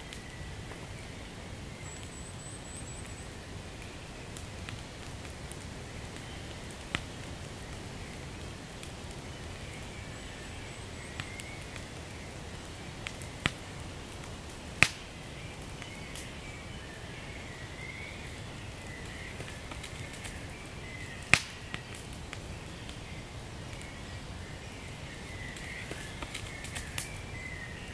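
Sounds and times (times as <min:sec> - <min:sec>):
fire crackling and popping: 0:00.0 - 0:27.9
wood fire hissing: 0:00.0 - 0:27.9.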